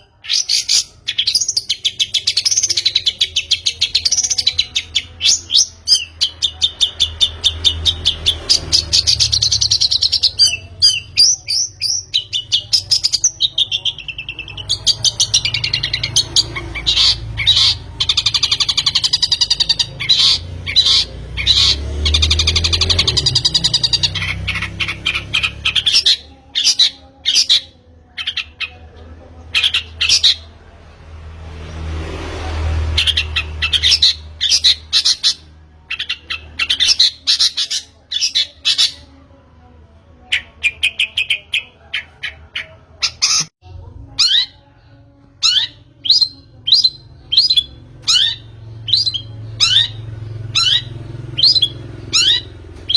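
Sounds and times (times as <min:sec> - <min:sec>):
shrike harsh squawks and chatter: 0:00.0 - 0:30.6, 0:32.8 - 0:39.6, 0:40.2 - 0:52.9.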